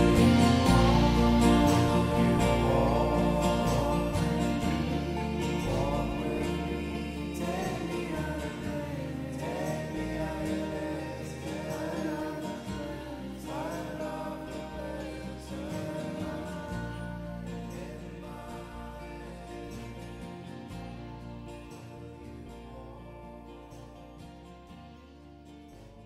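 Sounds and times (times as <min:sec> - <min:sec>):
vocals singing in harmony: 0:00.0 - 0:24.5
bass: 0:00.0 - 0:26.0
guitar: 0:00.0 - 0:26.0.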